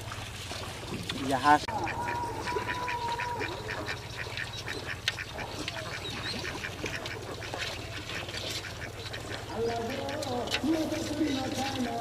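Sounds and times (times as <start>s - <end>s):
ducks quacking: 1.2s - 12.0s.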